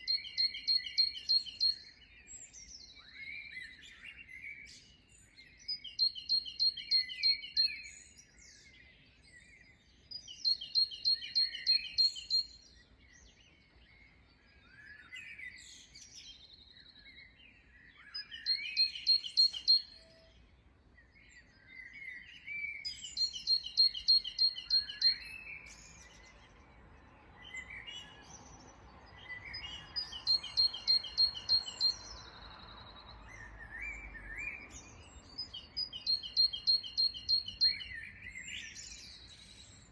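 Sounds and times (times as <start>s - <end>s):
bird song of high notes: 0.0s - 39.9s
birds chirping and whistling: 0.0s - 39.9s.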